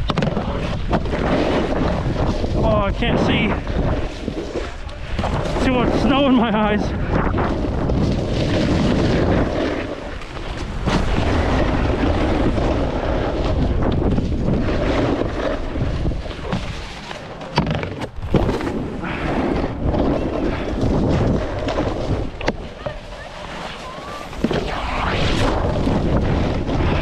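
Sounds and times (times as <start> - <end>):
wind buffeting microphone: 0.0 - 17.0, 17.6 - 27.0
snowboard sliding through snow: 0.0 - 27.0.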